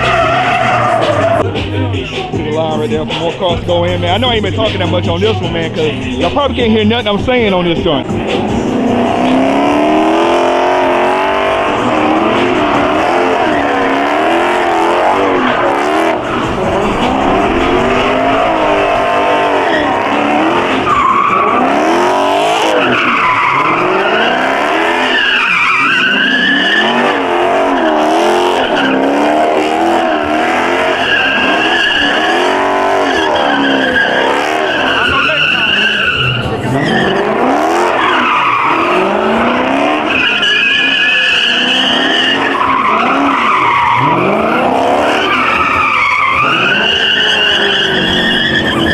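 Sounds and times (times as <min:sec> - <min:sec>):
car engine revving: 0:00.0 - 0:48.9
tires squealing: 0:00.0 - 0:48.9.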